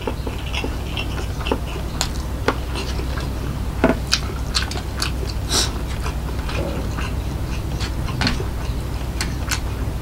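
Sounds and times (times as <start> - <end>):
person chewing with mouth smacks: 0.0 - 9.8
steady low hum: 0.0 - 10.0.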